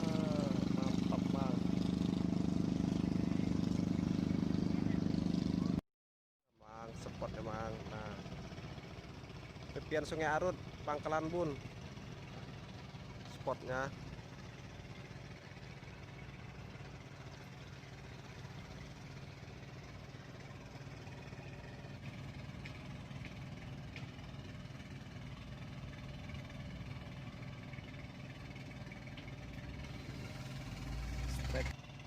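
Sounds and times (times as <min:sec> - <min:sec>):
small engine running: 0:00.0 - 0:05.8, 0:06.7 - 0:32.0.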